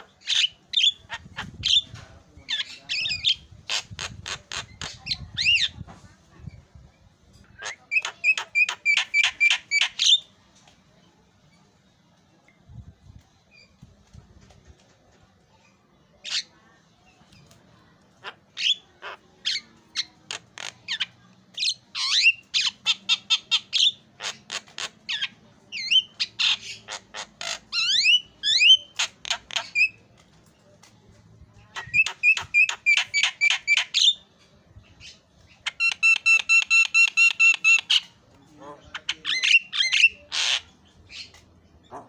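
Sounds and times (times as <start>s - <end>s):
myna bird singing: 0.0s - 10.4s, 15.6s - 31.0s, 31.6s - 42.0s.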